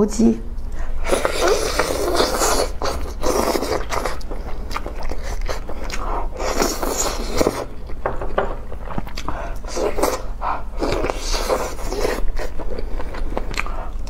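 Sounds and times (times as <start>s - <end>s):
biting and chewing chicken: 1.0s - 14.0s.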